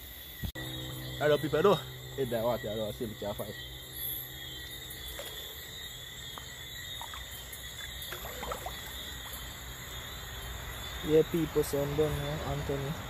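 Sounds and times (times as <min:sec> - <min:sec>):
night insects chirring: 0:00.0 - 0:13.0
water sloshing and trickling: 0:02.0 - 0:12.9.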